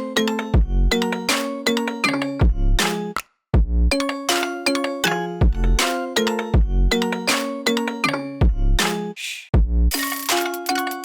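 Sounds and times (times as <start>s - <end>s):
electronic song with drum beat: 0.0s - 11.0s.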